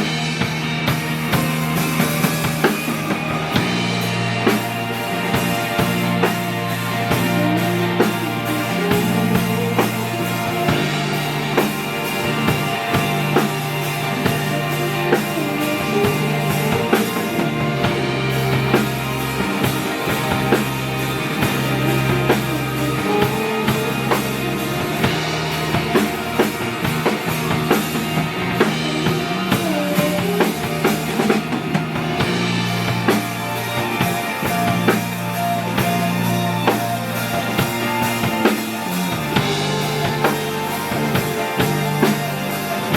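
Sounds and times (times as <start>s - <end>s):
drum kit beat: 0.0s - 42.9s
live band music: 0.0s - 42.9s
sustained bass notes: 0.0s - 42.9s.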